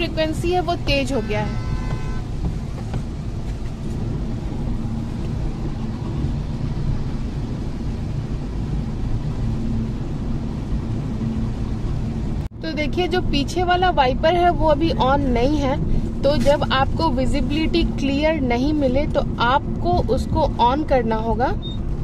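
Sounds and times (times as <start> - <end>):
tyres and engine rumble: 0.0 - 22.0.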